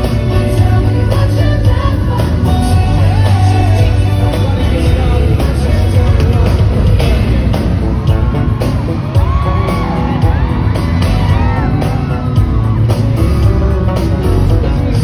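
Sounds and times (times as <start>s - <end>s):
drums: 0.0s - 15.0s
keyboard: 0.0s - 15.0s
live pop band playing: 0.0s - 15.0s
crowd screaming and whooping: 1.6s - 14.6s.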